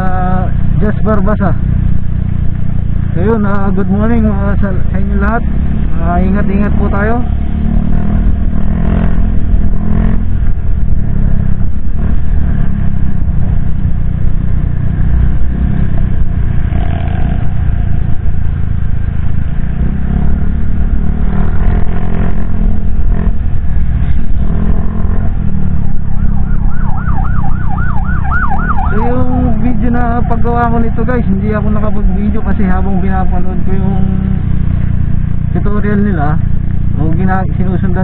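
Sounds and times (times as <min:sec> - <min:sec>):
motorcycle engine rumble: 0:00.0 - 0:38.0
wind buffeting: 0:00.0 - 0:38.0.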